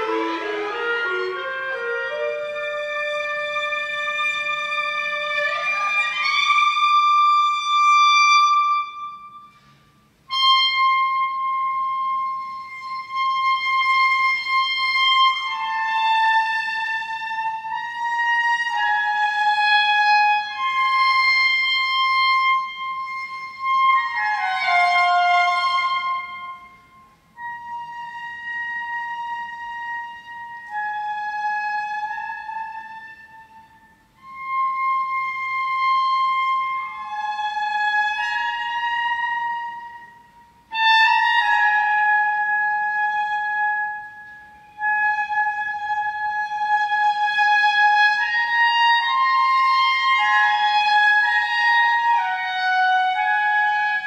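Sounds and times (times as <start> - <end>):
cello: 0.0 - 9.5, 10.3 - 54.0
clarinet: 0.0 - 54.0.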